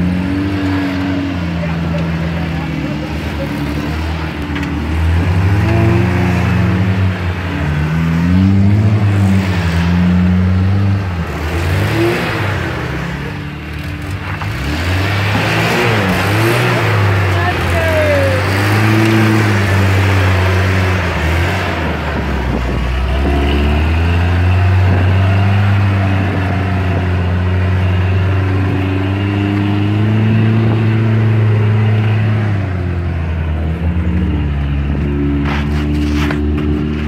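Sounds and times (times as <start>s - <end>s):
truck engine revving under load: 0.0s - 37.0s.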